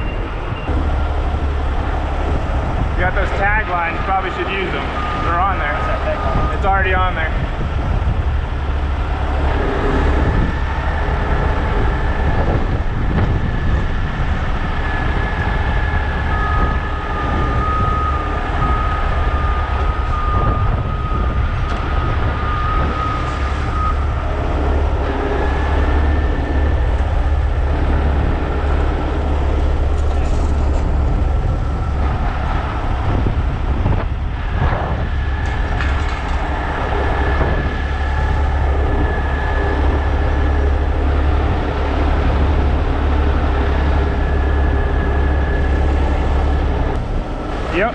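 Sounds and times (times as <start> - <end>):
diesel machinery rumbling: 0.0 - 47.9.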